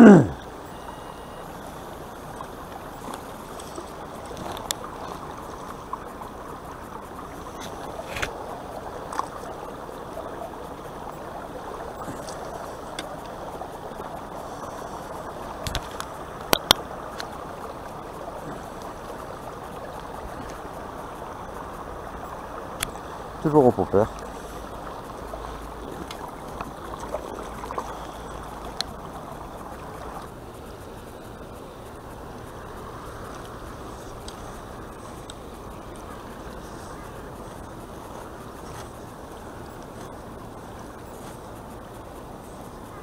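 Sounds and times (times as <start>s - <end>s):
water lapping among rocks: 1.6s - 43.0s.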